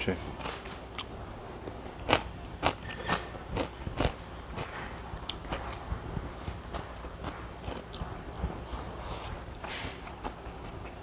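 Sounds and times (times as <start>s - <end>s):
crunchy chewing: 0.3s - 11.0s.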